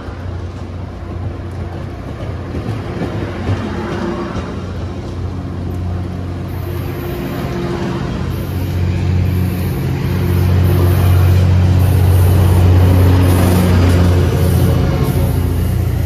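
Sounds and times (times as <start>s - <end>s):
diesel locomotive engine drone: 0.0s - 16.0s
train cars rolling on rails: 0.0s - 16.0s.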